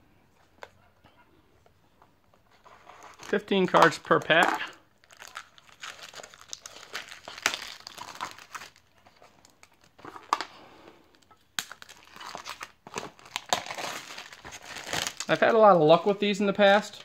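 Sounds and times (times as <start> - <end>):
shrink wrap crinkling and tearing: 2.6 - 17.0.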